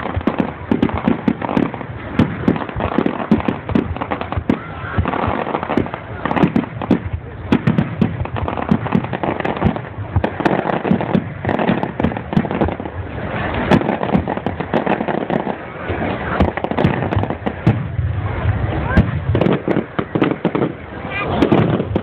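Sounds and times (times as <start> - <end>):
fireworks bangs and pops: 0.0 - 22.0
fireworks crackle: 0.0 - 22.0.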